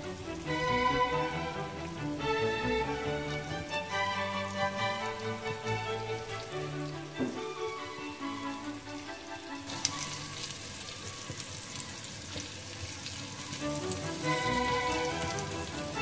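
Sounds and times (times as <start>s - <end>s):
background music: 0.0s - 16.0s
meatballs sizzling in hot oil: 0.0s - 16.0s.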